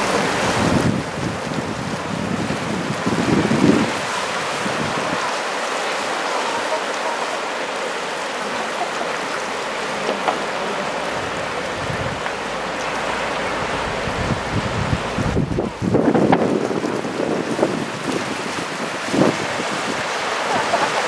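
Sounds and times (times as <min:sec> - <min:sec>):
ocean surf breaking: 0:00.0 - 0:21.0
wind gusts on microphone: 0:00.0 - 0:21.0.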